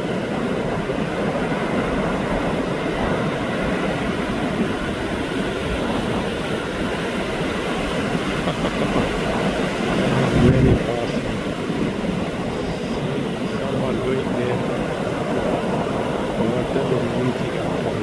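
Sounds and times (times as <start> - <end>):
ocean waves breaking: 0.0 - 18.0.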